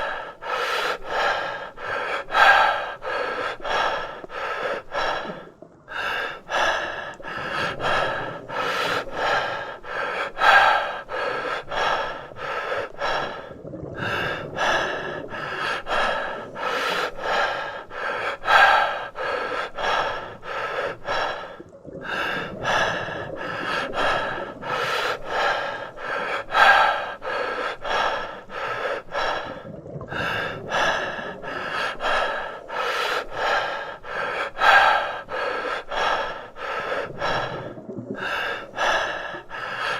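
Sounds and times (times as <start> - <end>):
person gasping breaths: 0.0 - 39.9.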